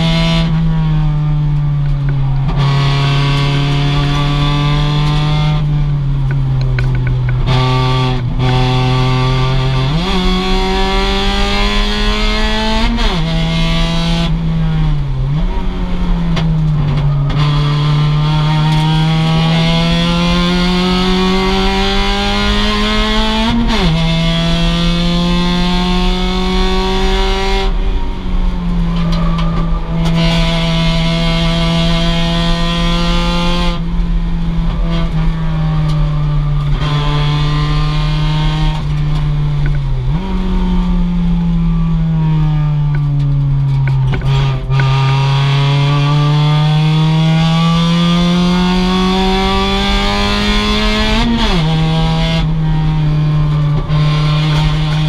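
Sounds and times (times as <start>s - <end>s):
car engine racing and shifting: 0.0s - 55.0s.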